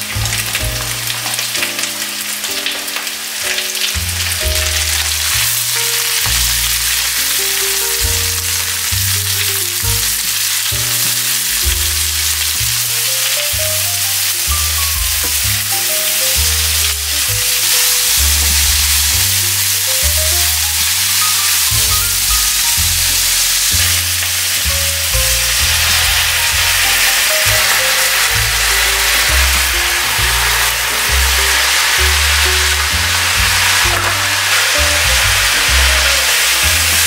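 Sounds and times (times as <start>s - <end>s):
background music with bass line: 0.0s - 3.0s, 3.6s - 37.0s
food sizzling in hot oil: 0.0s - 37.0s.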